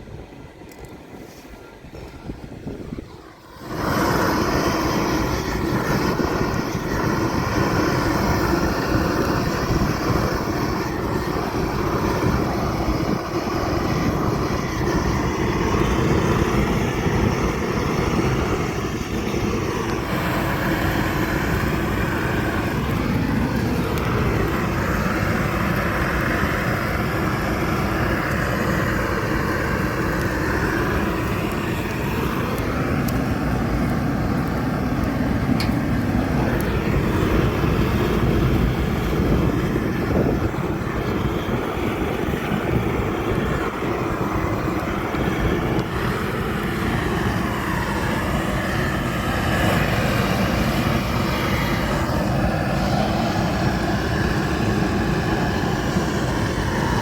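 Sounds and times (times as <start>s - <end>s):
steady mechanical running noise: 0.0s - 57.0s.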